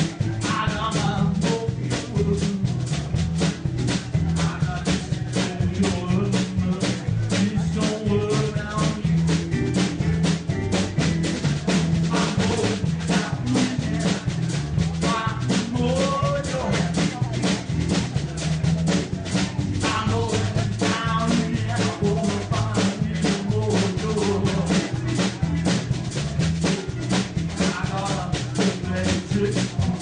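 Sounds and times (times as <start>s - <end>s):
blues band music: 0.0s - 30.0s
drum kit beat: 0.0s - 30.0s
stepping bass line: 0.0s - 30.0s.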